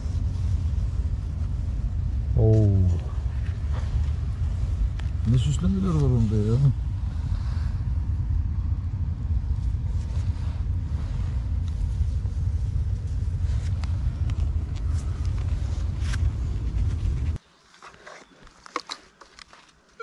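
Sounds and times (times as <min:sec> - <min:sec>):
wind rumble on microphone: 0:00.0 - 0:17.4.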